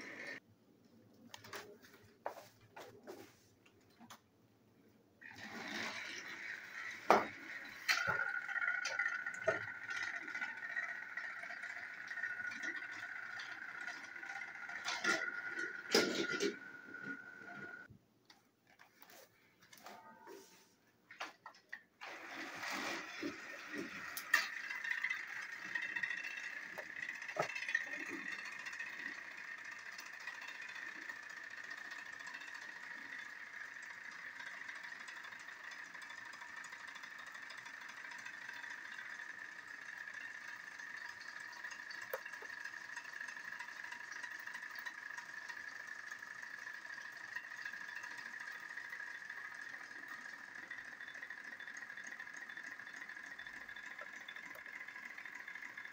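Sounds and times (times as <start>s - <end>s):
toy train motors whining: 0.0s - 0.4s, 5.2s - 17.9s, 21.7s - 55.9s.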